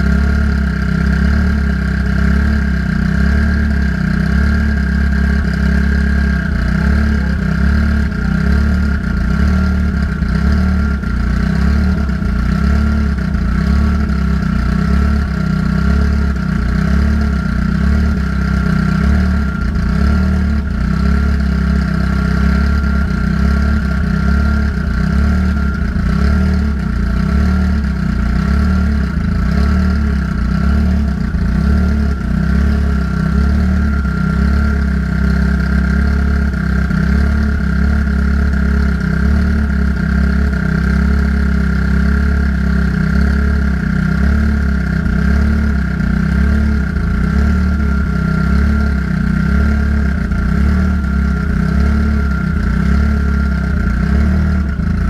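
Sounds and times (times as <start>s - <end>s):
car engine idling: 0.0s - 55.0s
steady whine: 0.0s - 55.0s.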